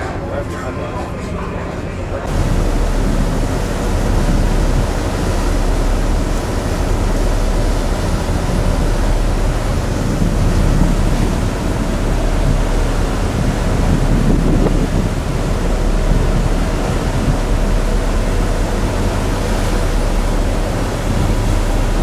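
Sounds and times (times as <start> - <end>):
low ship engine hum: 0.0 - 22.0
wind on microphone: 0.0 - 22.0.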